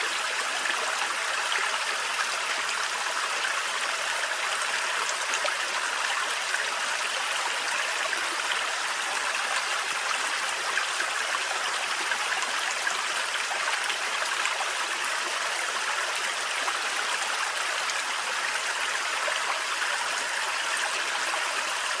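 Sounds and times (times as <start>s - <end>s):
small waterfall splashing: 0.0s - 22.0s.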